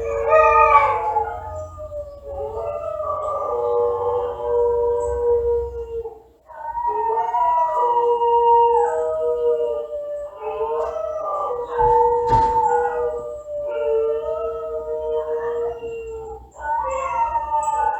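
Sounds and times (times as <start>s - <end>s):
dogs howling: 0.0s - 17.9s.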